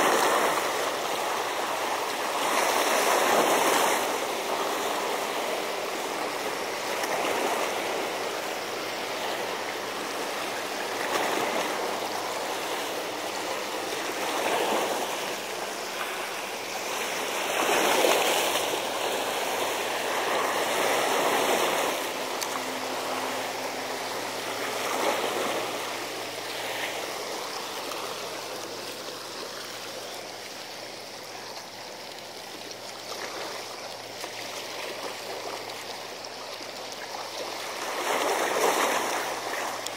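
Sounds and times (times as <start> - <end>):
seawater washing against seawall: 0.0 - 39.9.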